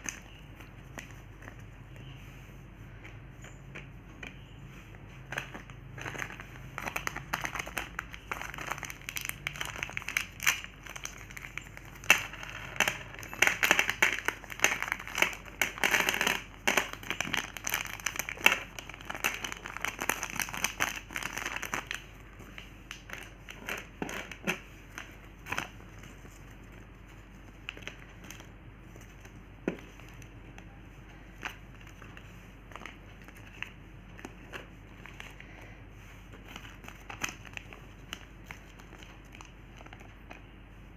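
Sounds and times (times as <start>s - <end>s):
plastic wrapper crinkling: 5.2s - 40.4s.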